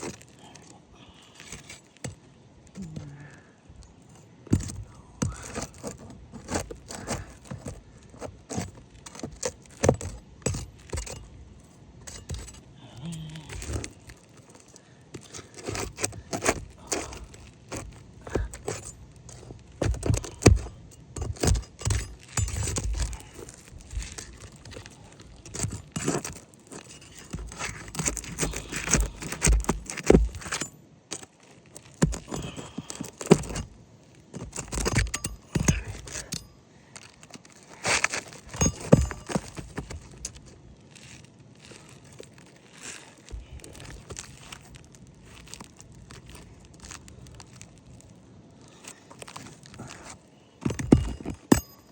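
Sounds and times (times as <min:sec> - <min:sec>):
metal scraping on shingles: 0:03.9 - 0:47.8.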